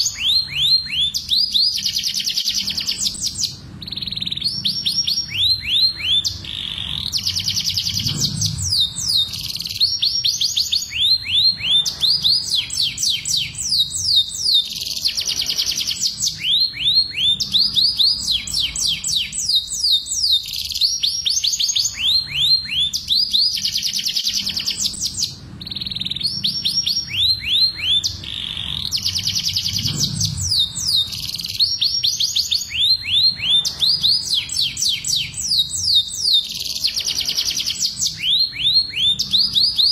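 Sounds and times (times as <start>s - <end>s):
canaries singing fast trills: 0.0s - 39.9s.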